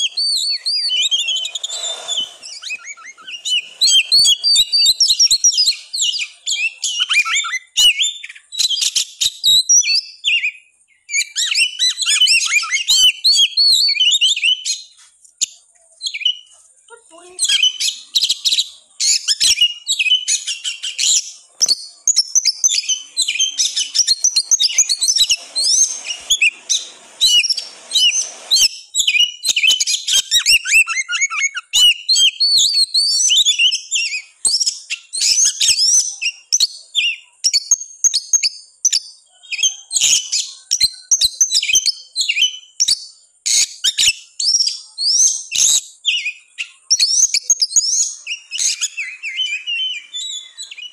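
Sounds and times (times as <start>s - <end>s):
bird singing: 0.0s - 50.9s.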